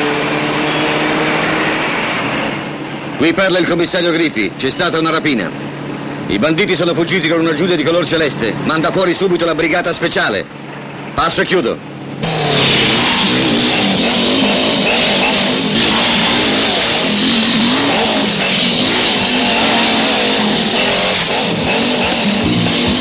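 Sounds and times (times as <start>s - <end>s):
motorcycle engines: 0.0s - 23.0s.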